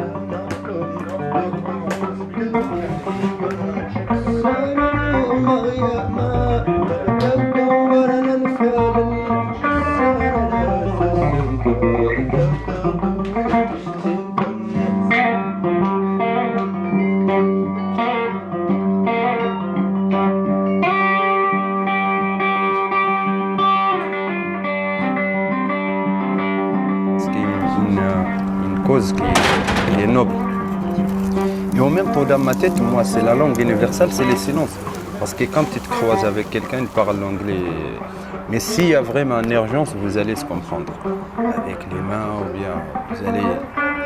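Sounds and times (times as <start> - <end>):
plucked guitar with bending notes: 0.0 - 44.0.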